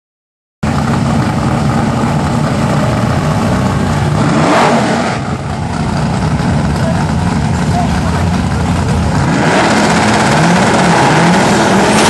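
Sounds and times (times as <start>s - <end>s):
car engine idling and revving: 0.6s - 12.0s.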